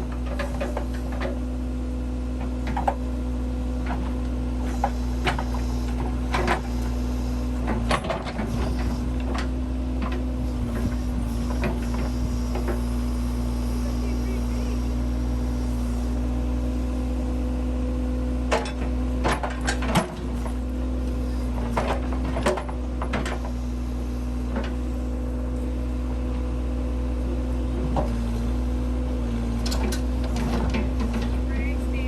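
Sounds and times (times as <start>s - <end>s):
backhoe engine running: 0.0s - 32.0s.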